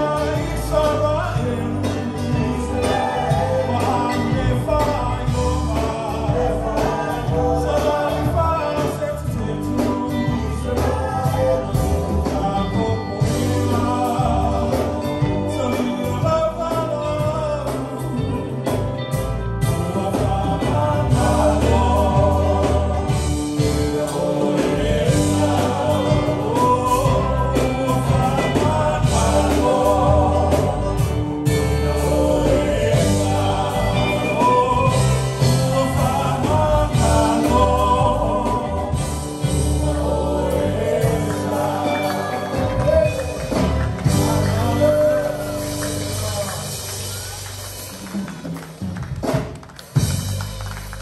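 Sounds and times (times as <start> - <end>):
people singing: 0.0 - 46.8
drums: 0.0 - 51.0
electric guitars: 0.0 - 51.0
keyboard: 0.0 - 51.0.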